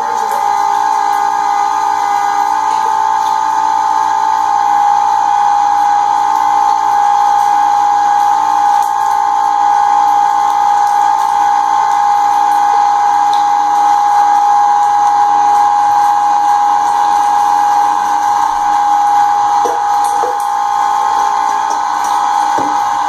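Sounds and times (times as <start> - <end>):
electric meat grinder running: 0.0 - 23.0.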